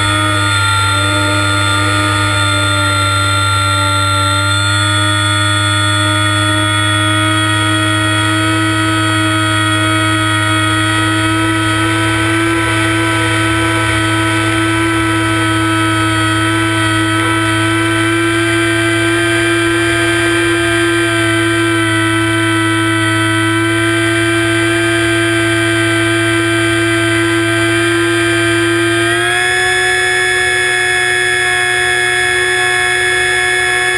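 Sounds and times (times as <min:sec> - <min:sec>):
electric motor and propeller whine: 0:00.0 - 0:33.9.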